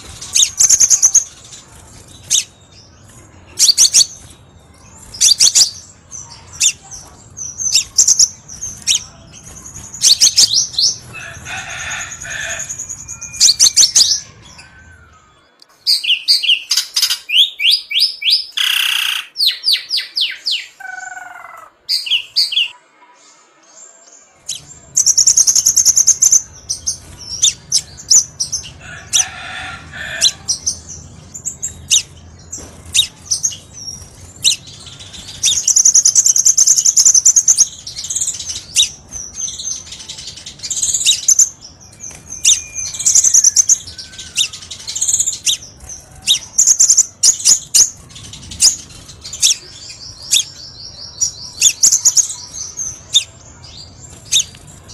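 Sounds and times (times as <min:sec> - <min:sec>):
bird chips and trills: 0:00.0 - 0:15.3, 0:24.4 - 0:54.9.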